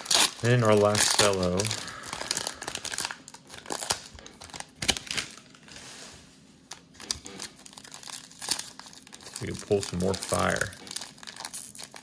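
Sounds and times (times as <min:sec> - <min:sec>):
cellophane wrappers crinkling: 0:00.0 - 0:05.8, 0:06.6 - 0:12.0.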